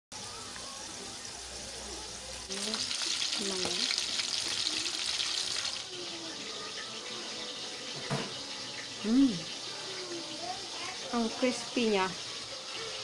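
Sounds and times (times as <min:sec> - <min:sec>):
fritters sizzling in oil: 0:00.2 - 0:13.0.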